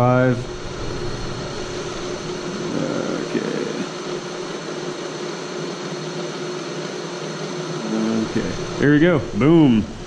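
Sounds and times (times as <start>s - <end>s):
milling machine motor humming: 0.0s - 10.0s.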